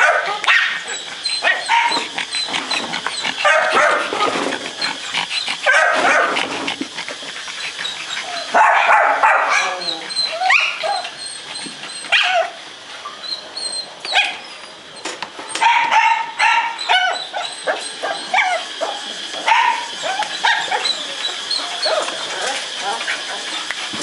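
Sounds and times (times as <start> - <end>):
small dog yapping: 0.0 - 6.6, 7.5 - 12.6, 14.0 - 14.5, 15.6 - 23.5.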